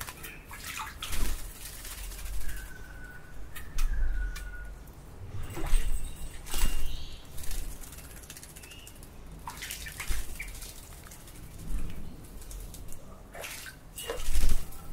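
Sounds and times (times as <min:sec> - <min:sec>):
bird wings flapping: 0:00.0 - 0:03.1, 0:05.6 - 0:14.9
water dripping into birdbath: 0:00.0 - 0:04.6, 0:06.3 - 0:14.6.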